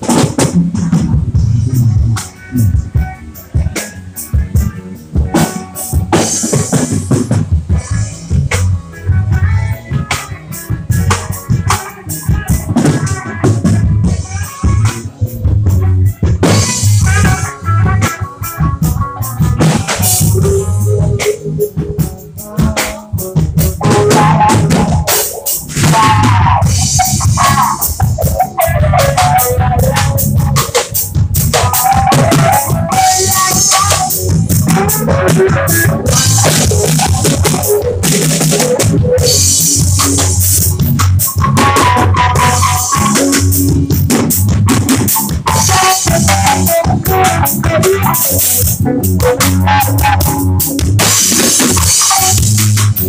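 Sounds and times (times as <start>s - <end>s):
band music with drum kit: 0.0s - 53.0s.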